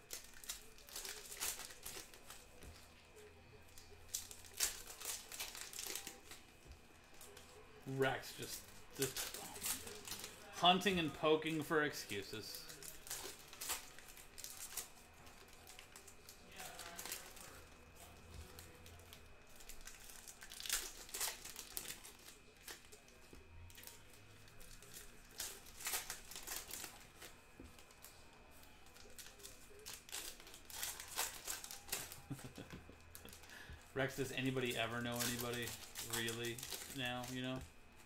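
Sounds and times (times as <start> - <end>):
foil wrappers crinkling and tearing: 0.0 - 38.0.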